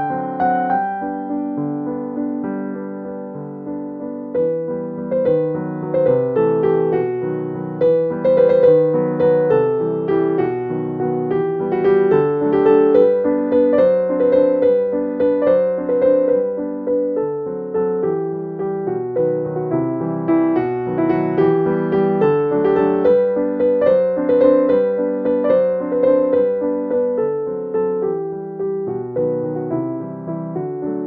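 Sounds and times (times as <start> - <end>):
gentle piano melody: 0.0 - 31.0.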